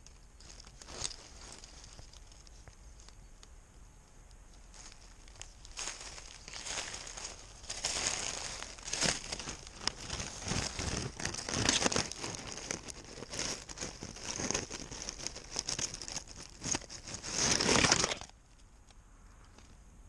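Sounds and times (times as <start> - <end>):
close rustling and crinkling: 0.0 - 3.3, 4.5 - 18.8.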